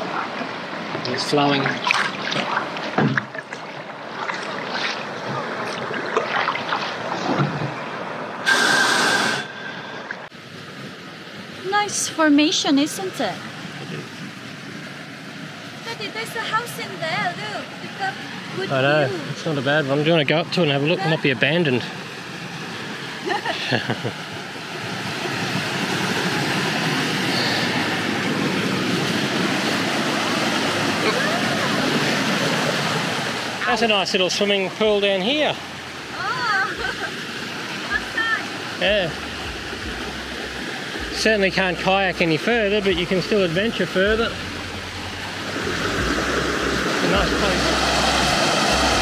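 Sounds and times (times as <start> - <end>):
creek water splashing: 0.0 - 49.0.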